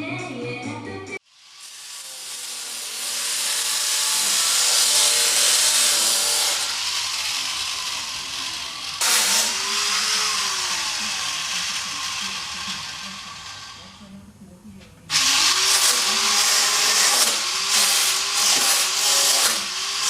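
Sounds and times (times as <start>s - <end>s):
power tool hissing: 1.2s - 14.0s, 15.1s - 20.0s.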